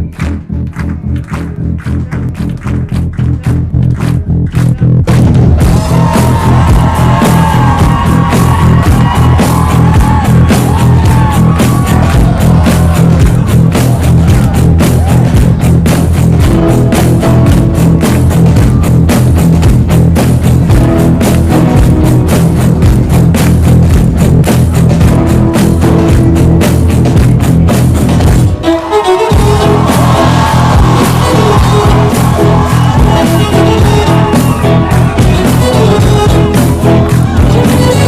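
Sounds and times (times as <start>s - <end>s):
loud music with heavy bass: 0.0s - 38.0s.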